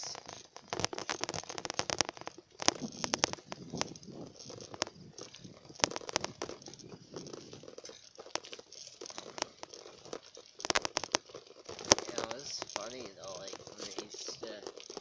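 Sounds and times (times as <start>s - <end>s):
low rumble of bicycle ride: 0.0s - 15.0s
phone rattling on handlebars: 0.0s - 15.0s.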